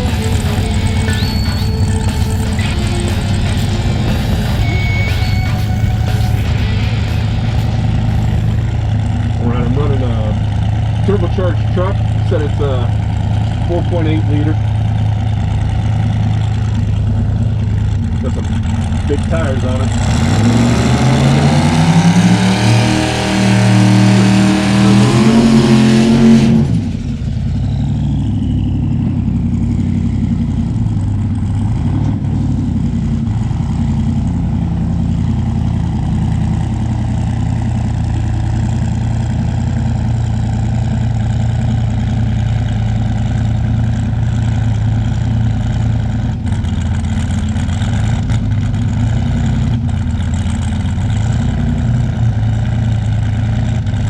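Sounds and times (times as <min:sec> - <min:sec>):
truck engine revving and idling: 0:00.0 - 0:54.0.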